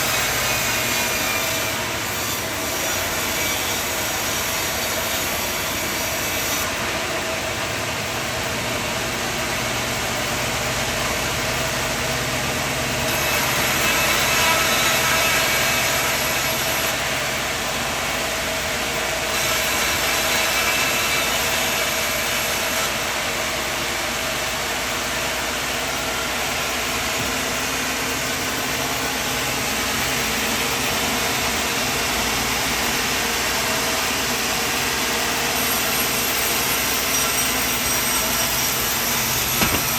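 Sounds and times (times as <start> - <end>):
saw cutting: 0.0 - 39.9
sawmill engine running: 0.0 - 39.9.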